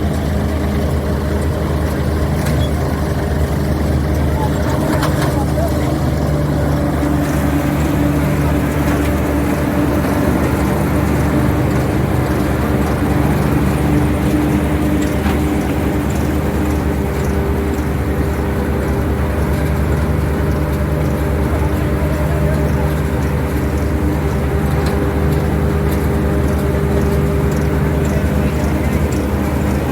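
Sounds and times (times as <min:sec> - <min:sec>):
harvesting machine engine running: 0:00.0 - 0:29.9.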